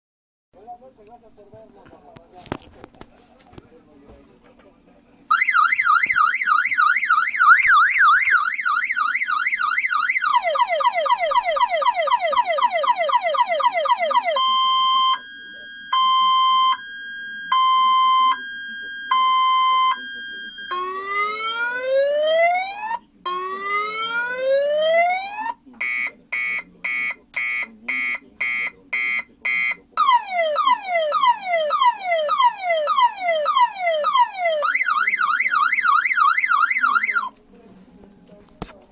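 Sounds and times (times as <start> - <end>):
car alarm siren: 5.3 - 37.3.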